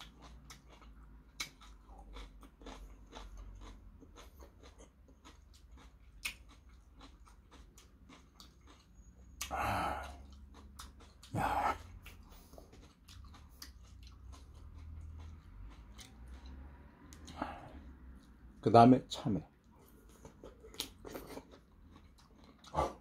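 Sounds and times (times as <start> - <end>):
crisp chewing of cucumber: 0.0 - 18.6, 19.6 - 23.0.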